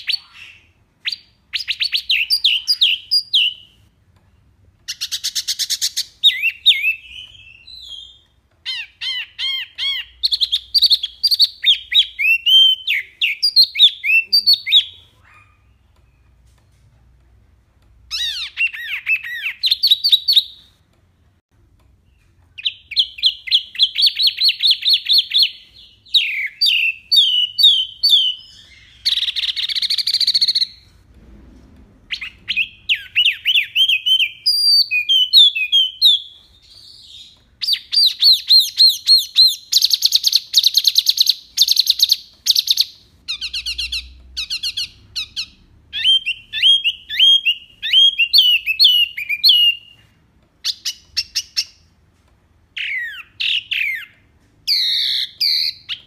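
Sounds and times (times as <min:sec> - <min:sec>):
songbird whistling and trilling: 0:00.0 - 0:03.8, 0:04.9 - 0:15.8, 0:18.1 - 0:20.7, 0:22.6 - 0:30.9, 0:32.1 - 0:51.8, 0:52.8 - 0:56.0.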